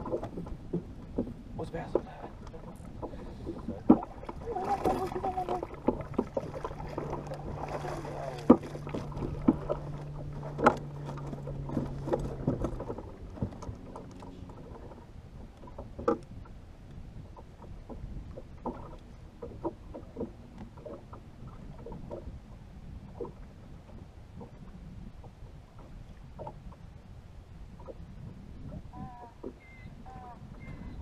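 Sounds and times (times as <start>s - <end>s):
knocks and clatter on boat: 0.0s - 31.0s
low steady hum: 0.0s - 31.0s
water lapping against hull: 0.0s - 31.0s.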